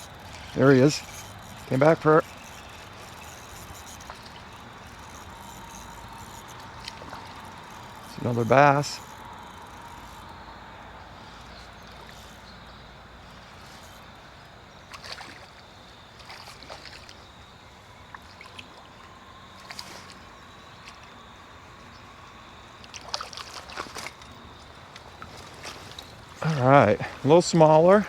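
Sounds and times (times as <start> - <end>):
creek water running: 0.0 - 28.0.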